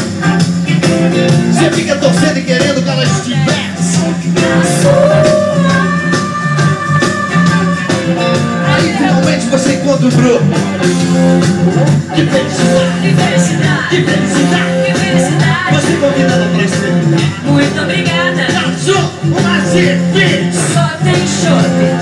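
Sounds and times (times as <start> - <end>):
loud dance music with singing: 0.0 - 22.0.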